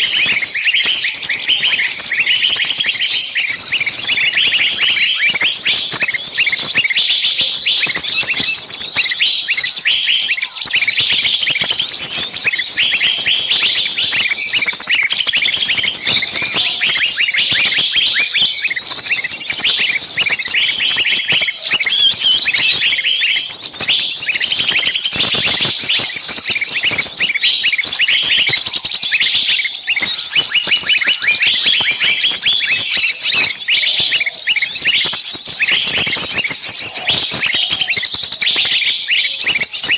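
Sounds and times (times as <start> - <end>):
bird distress calls screeching: 0.0 - 39.9
small birds chirping shrilly: 0.0 - 39.9.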